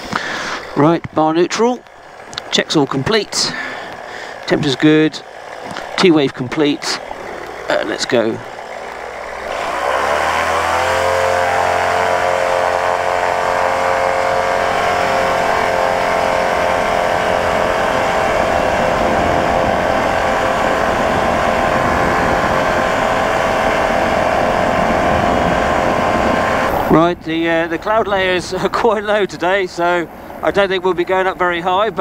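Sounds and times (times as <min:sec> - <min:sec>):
light aircraft engine and propeller: 0:00.0 - 0:32.0.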